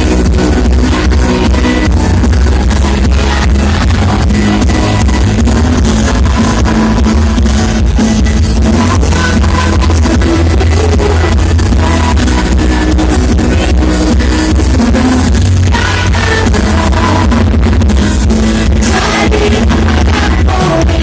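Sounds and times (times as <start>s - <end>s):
loud music with heavy bass: 0.0s - 21.0s.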